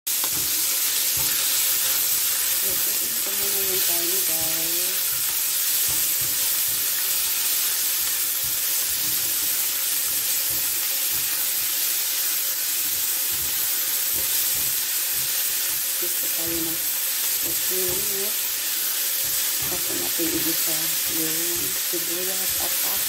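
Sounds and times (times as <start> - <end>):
meat sizzling in hot oil: 0.1 - 23.0.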